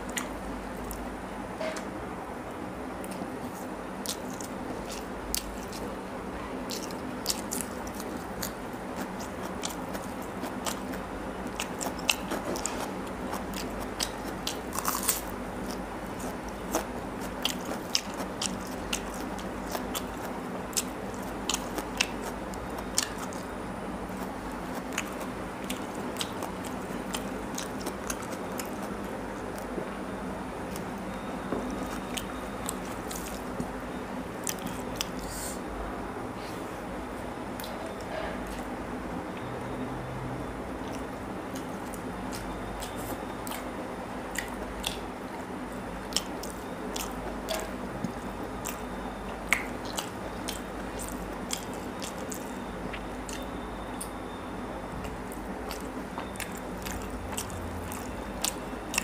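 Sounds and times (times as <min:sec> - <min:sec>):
man chewing and biting food: 0:00.0 - 0:01.2, 0:03.0 - 0:06.0, 0:06.6 - 0:35.6, 0:40.7 - 0:59.0
faint steady hum: 0:00.0 - 0:59.0.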